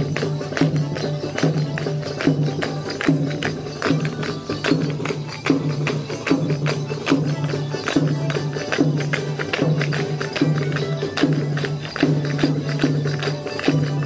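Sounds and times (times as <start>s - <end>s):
folk dance music: 0.0s - 14.0s
jingling percussive strikes: 0.0s - 14.0s.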